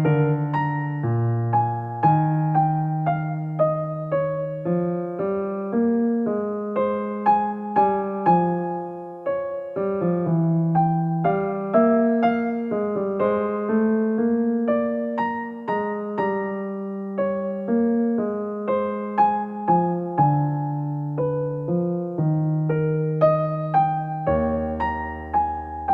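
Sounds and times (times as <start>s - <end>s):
slow gentle piano music: 0.0s - 25.9s.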